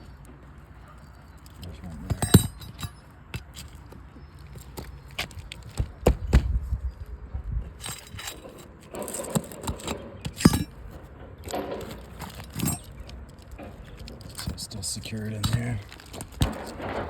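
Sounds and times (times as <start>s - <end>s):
roof shingles scraping and crinkling: 0.0s - 6.6s, 7.8s - 17.0s.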